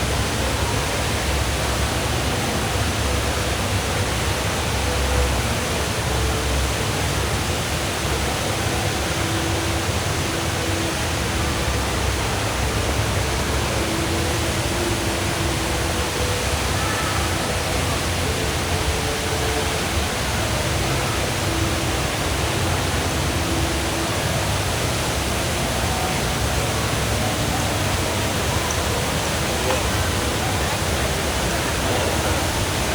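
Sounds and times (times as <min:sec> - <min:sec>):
indoor waterfall pouring: 0:00.0 - 0:32.9.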